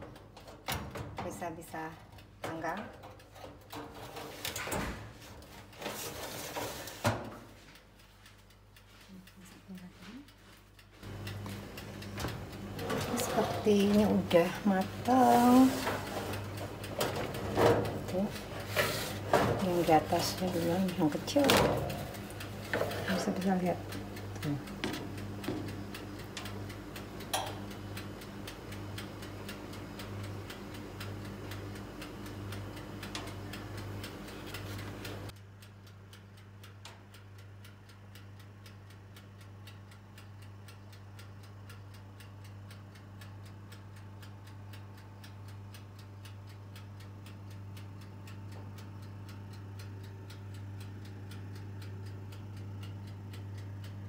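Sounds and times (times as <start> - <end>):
low electrical hum: 0.0 - 54.0
mechanical ticking: 7.8 - 54.0.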